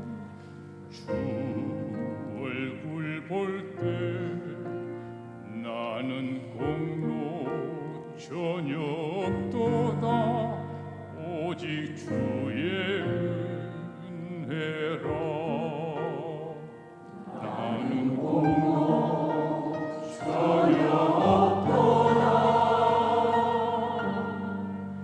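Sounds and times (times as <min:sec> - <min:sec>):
choir singing a hymn: 0:00.0 - 0:04.8, 0:05.5 - 0:25.0.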